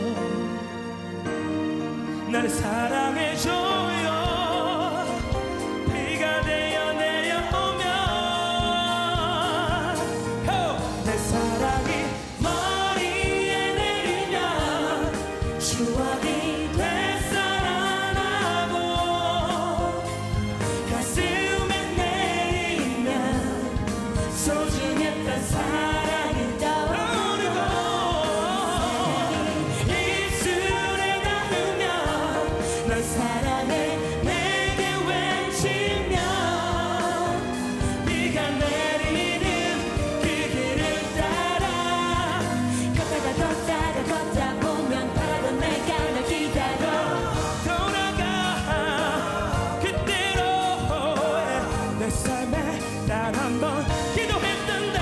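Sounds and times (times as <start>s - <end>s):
drums: 0.0s - 55.0s
piano: 0.0s - 55.0s
string section: 0.0s - 55.0s
man singing pop ballad: 2.2s - 46.0s, 47.4s - 55.0s.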